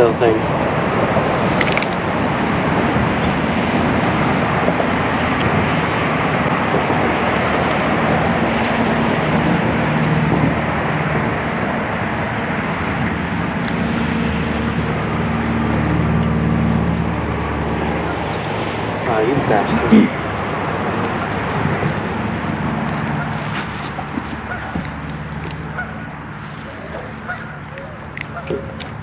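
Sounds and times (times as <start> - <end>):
boat motor running: 0.0 - 29.0
rushing noise: 0.0 - 29.0.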